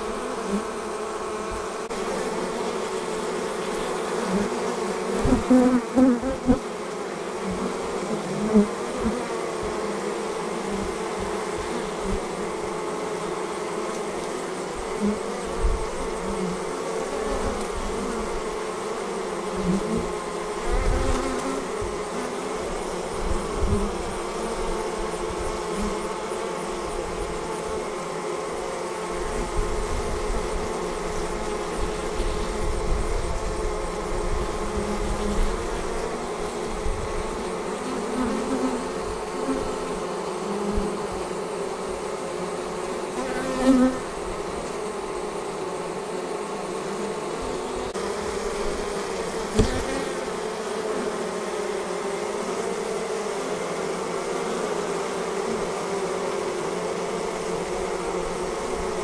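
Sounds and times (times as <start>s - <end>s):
bees buzzing: 0.0s - 59.0s
single bee flying past: 0.0s - 59.0s.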